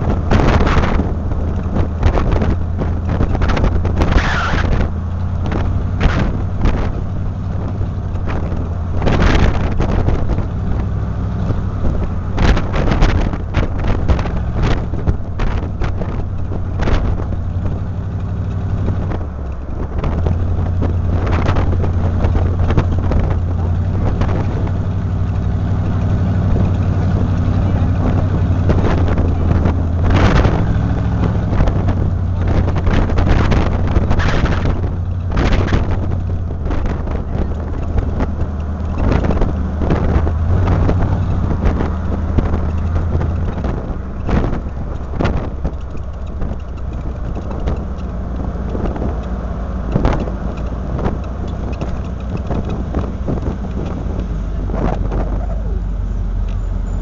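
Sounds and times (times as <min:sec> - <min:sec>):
car engine running: 0:00.0 - 0:57.0
tyre and road noise: 0:00.0 - 0:57.0
wind gusts on microphone: 0:00.0 - 0:57.0.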